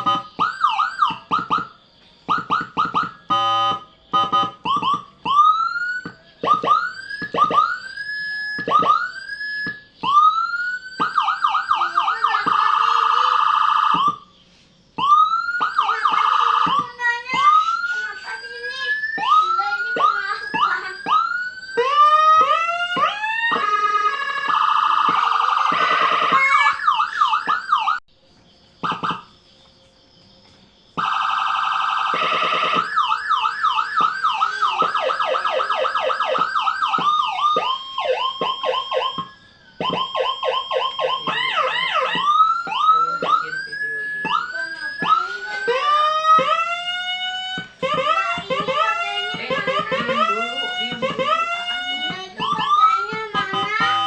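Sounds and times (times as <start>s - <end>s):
electronic siren cycling tones: 0.0s - 28.0s, 28.8s - 29.4s, 31.0s - 54.0s.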